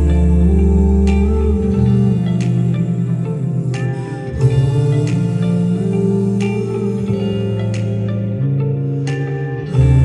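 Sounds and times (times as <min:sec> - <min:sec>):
bass line: 0:00.0 - 0:10.0
sustained synth chords: 0:00.0 - 0:10.0.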